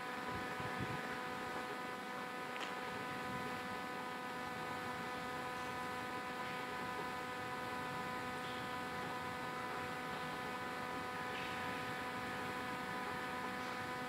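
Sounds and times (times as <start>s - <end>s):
electrical hum with high tones: 0.0s - 14.0s.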